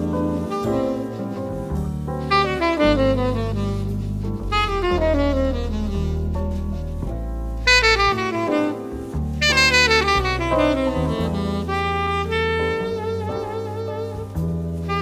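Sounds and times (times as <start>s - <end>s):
double bass: 0.0s - 15.0s
tenor saxophone jazz solo: 0.0s - 15.0s.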